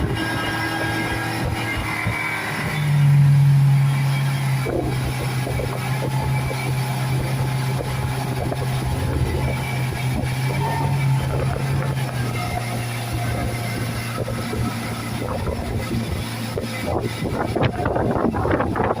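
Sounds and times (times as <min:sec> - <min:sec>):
speedboat engine running: 0:00.0 - 0:19.0
wind and water hiss: 0:00.0 - 0:19.0.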